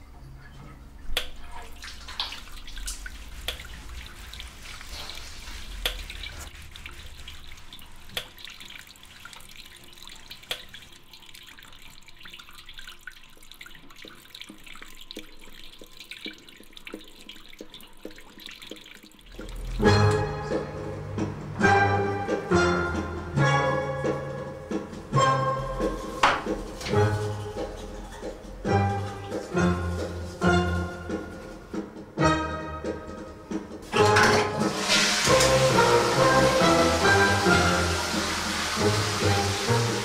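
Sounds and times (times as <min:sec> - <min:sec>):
tap water running into basin: 0:01.1 - 0:23.2, 0:24.6 - 0:31.9, 0:33.5 - 0:40.0.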